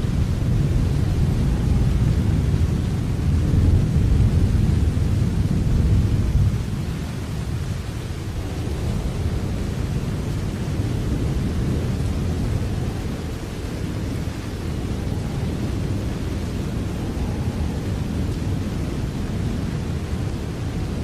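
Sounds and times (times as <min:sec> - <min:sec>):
steady rain rumble: 0:00.0 - 0:21.0.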